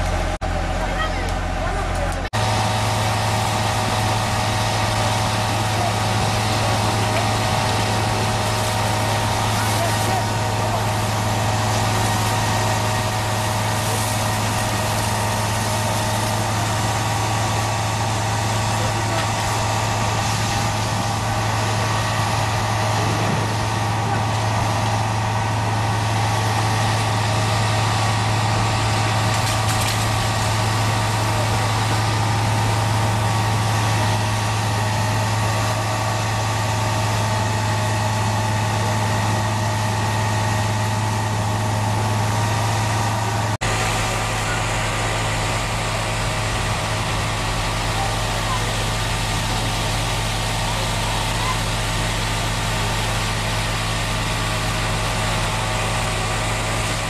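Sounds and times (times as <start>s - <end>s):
fire engine motor droning: 0.0s - 57.0s.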